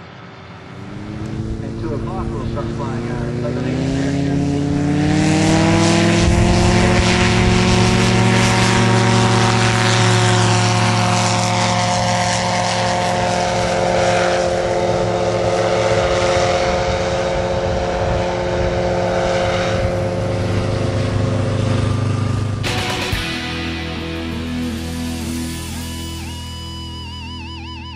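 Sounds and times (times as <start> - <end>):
light aircraft engine and propeller: 0.0 - 27.9.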